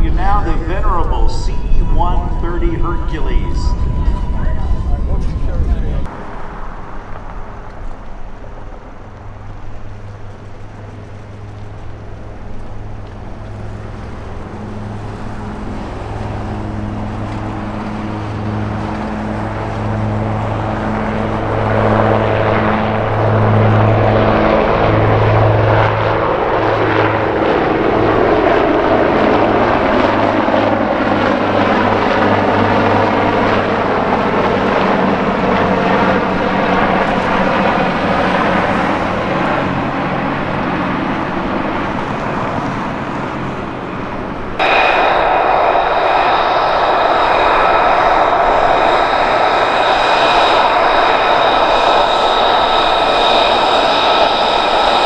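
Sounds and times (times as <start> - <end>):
helicopter rotor beat: 0.0 - 55.0
turbine whine: 0.0 - 55.0.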